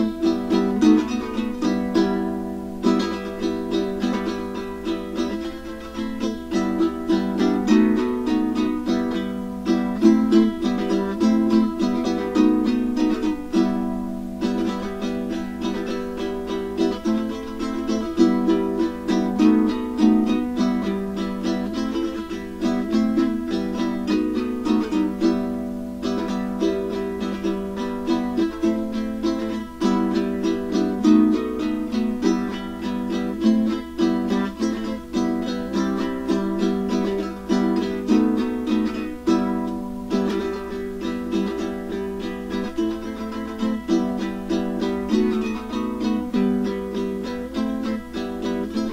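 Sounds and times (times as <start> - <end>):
ukulele strumming: 0.0 - 48.9.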